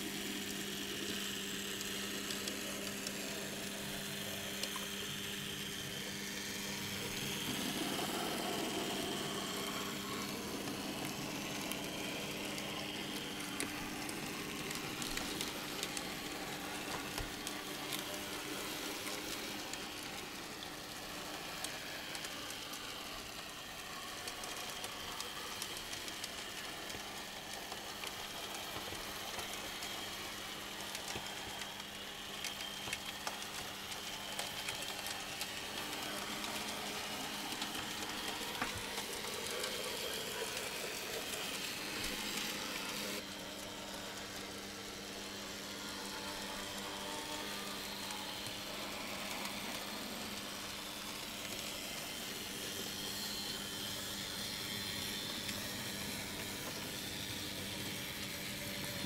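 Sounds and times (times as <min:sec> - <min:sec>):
model train motor humming: 0:00.0 - 0:59.0.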